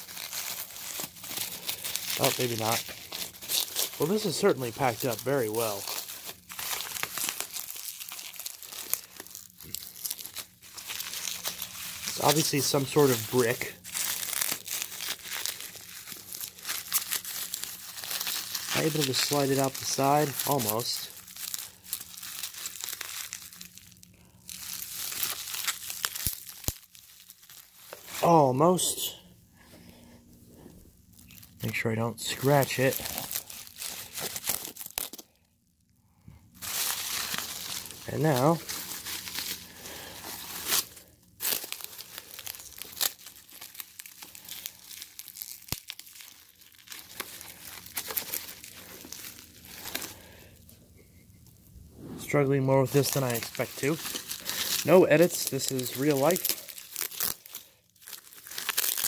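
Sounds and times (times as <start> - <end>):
bubble wrap snaps: 0.0 - 28.4, 32.4 - 35.3, 36.6 - 50.2, 53.0 - 59.0
bubble wrap crinkling: 0.0 - 35.6, 36.2 - 59.0.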